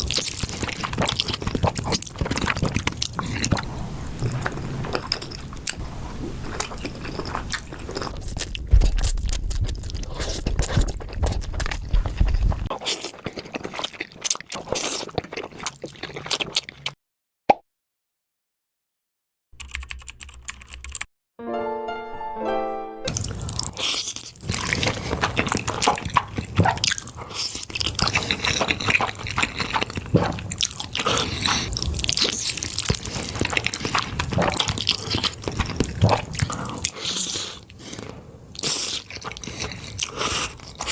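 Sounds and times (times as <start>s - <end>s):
person chewing pasta: 0.0s - 17.0s, 23.1s - 40.9s.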